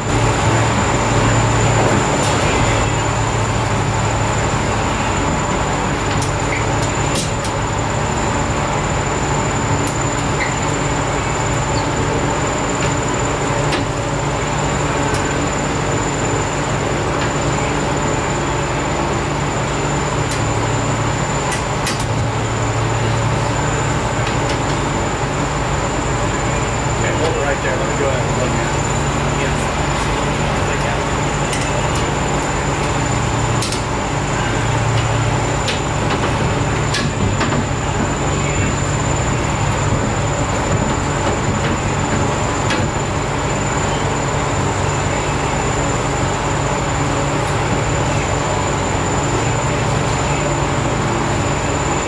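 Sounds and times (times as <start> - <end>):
mechanical drone: 0.0 - 52.0.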